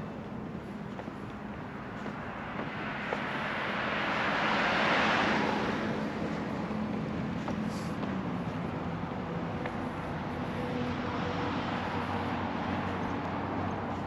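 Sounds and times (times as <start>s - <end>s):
car passing: 1.4s - 14.0s.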